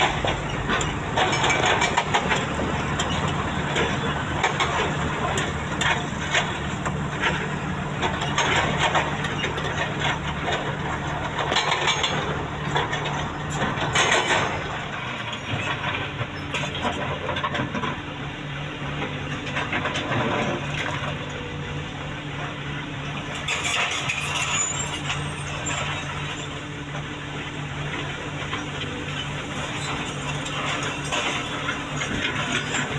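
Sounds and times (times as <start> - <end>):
machinery clanks and knocks: 0.0 - 18.2, 18.8 - 32.9
excavator diesel engine running: 0.0 - 32.9.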